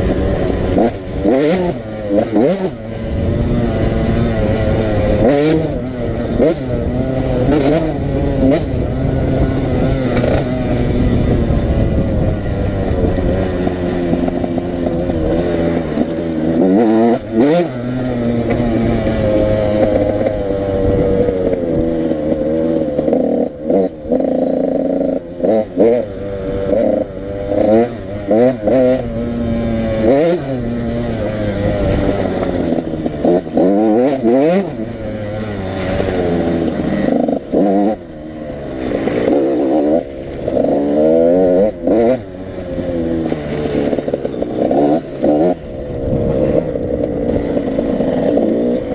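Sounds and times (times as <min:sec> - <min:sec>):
motorbike engines revving: 0:00.0 - 0:48.9.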